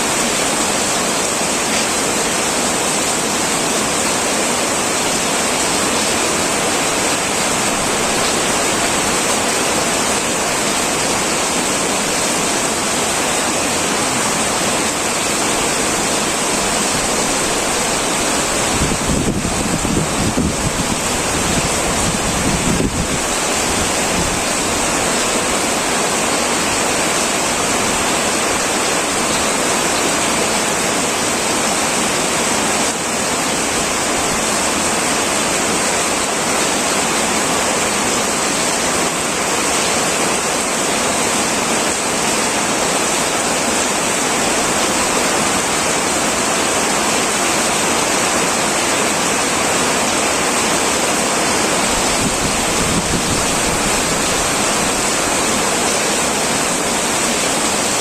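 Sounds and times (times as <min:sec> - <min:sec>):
heavy rain on tin roof: 0:00.0 - 0:58.0.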